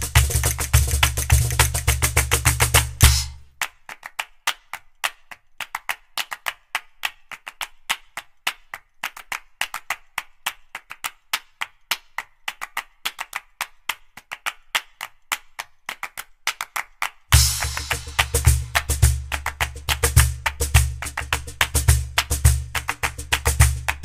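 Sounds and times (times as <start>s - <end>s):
percussion track of dry clicks: 0.0s - 5.0s, 5.6s - 24.0s.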